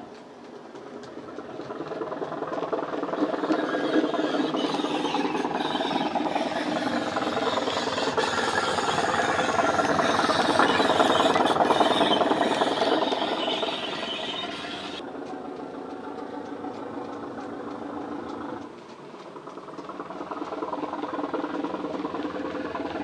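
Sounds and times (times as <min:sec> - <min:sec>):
model train gears whirring: 0:00.0 - 0:23.0
diesel engine sound from speaker: 0:01.3 - 0:23.0.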